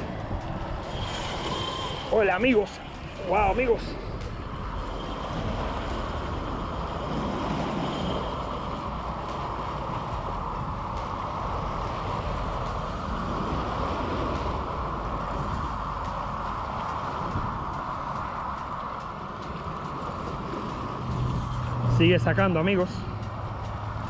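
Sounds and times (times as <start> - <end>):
wind on microphone: 0.0 - 22.1.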